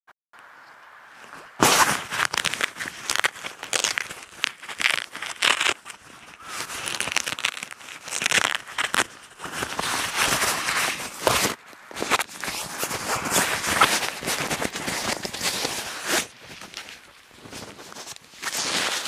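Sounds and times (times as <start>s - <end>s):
backpack and clothing rustling: 1.2s - 19.0s.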